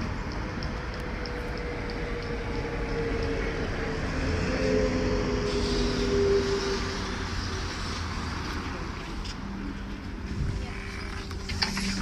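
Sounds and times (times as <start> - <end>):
street traffic: 0.0 - 12.0
trolleybus electric drive whining: 0.0 - 12.0.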